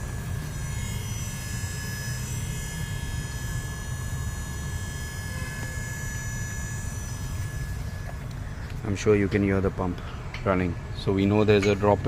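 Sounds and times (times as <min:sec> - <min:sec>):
electric hydraulic pump humming: 0:00.0 - 0:12.0.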